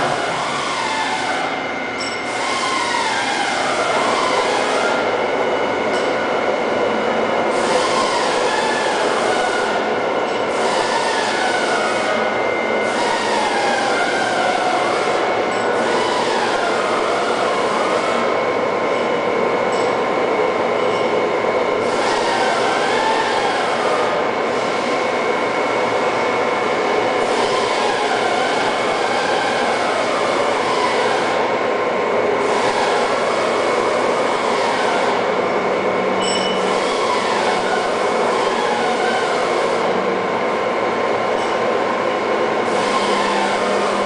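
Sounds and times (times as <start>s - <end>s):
boring mill mechanical whir: 0.0s - 44.0s.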